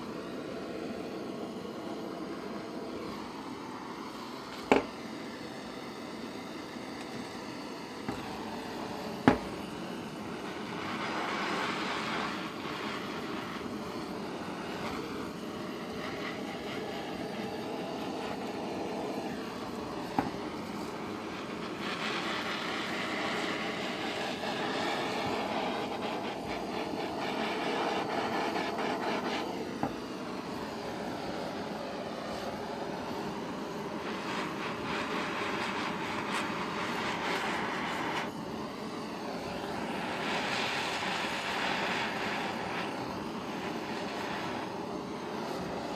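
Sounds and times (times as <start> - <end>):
blowtorch flame hissing: 0.0 - 45.9.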